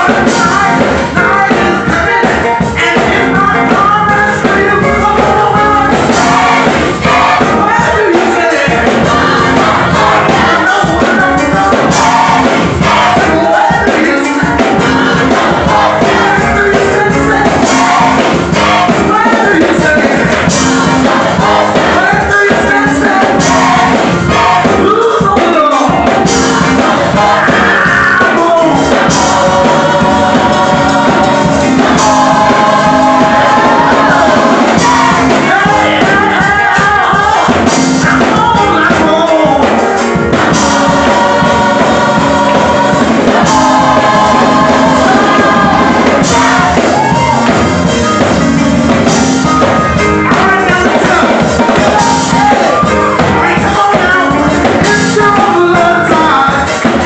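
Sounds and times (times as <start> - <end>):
gospel choir singing loudly: 0.0 - 57.0
instrumental accompaniment: 0.0 - 57.0.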